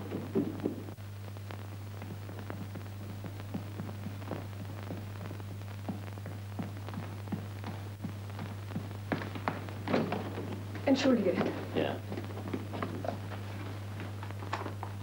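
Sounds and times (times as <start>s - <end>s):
footsteps down a staircase: 0.0s - 1.0s, 2.0s - 15.0s.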